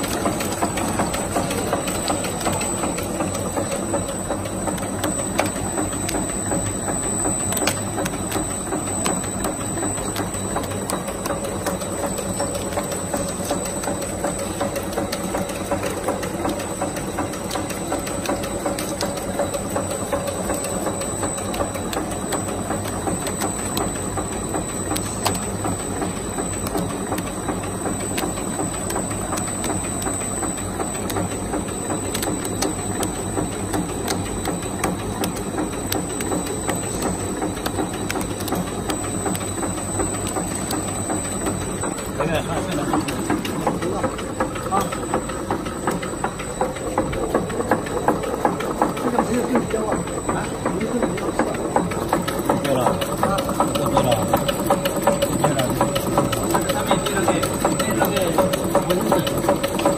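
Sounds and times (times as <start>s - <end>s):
machinery clattering: 0.0s - 59.9s.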